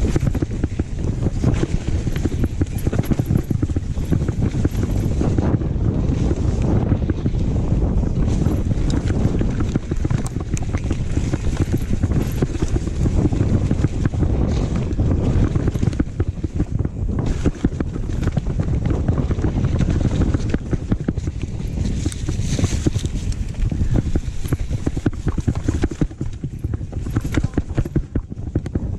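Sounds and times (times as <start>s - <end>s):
bike rattling and knocking: 0.0s - 28.9s
tyres rumbling over trail: 0.0s - 28.9s
wind buffeting microphone: 0.0s - 28.9s.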